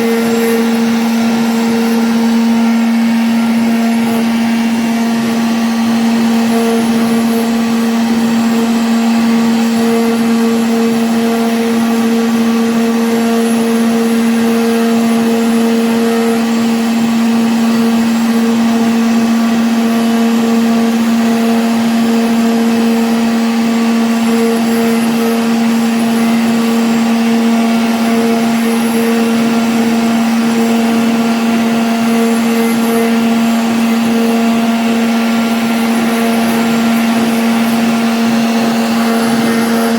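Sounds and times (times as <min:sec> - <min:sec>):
router cutting hiss: 0:00.0 - 0:39.9
router spindle motor whine: 0:00.0 - 0:39.9.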